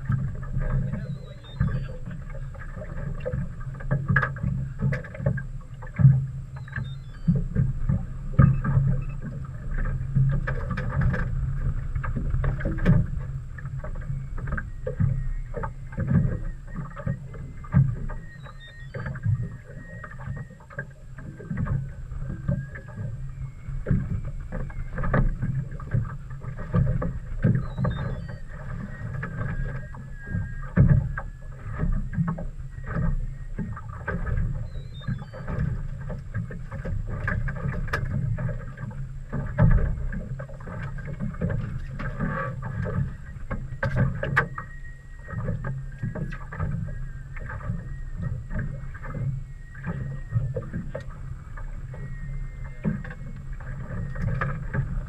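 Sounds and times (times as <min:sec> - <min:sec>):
boat engine humming: 0:00.0 - 0:55.0
water slapping against hull: 0:00.0 - 0:55.0.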